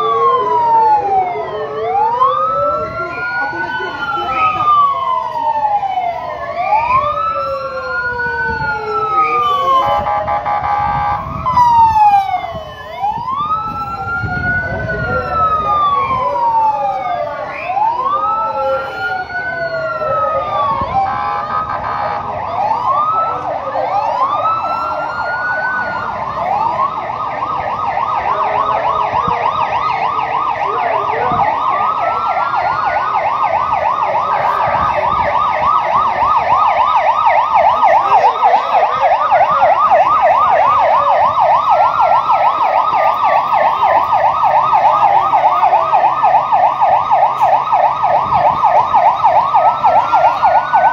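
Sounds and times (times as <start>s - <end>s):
emergency vehicle sirens wailing: 0.0s - 50.9s
siren fast yelp: 0.0s - 50.9s.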